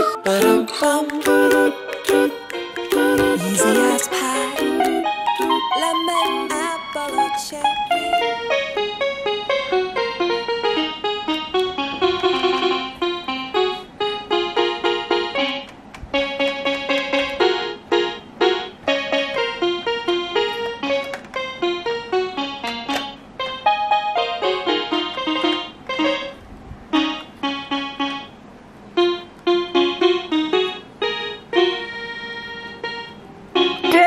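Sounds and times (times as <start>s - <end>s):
electronic keyboard melody: 0.0s - 34.0s.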